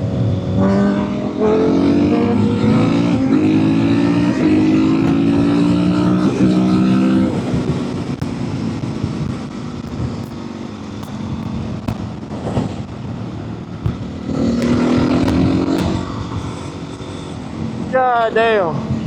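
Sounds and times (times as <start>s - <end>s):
wind noise on microphone: 0.0s - 17.9s
motorcycle engine: 0.0s - 19.0s.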